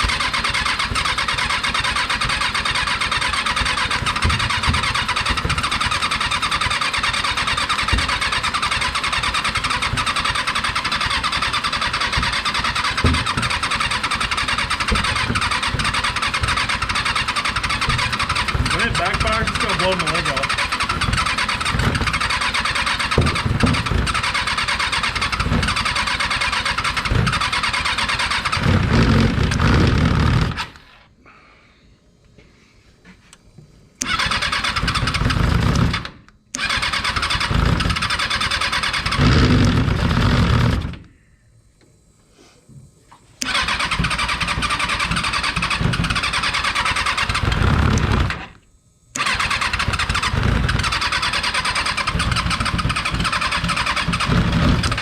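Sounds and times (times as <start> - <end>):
motorcycle engine starter cranking: 0.0 - 31.1, 34.0 - 41.1, 43.1 - 48.6, 49.2 - 55.0.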